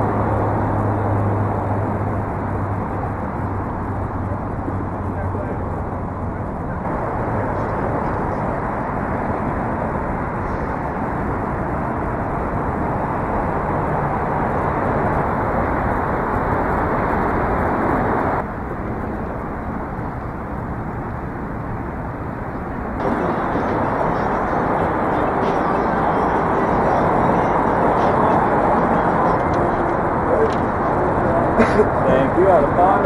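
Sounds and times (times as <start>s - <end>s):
loud rushing outdoor noise: 0.0s - 33.0s.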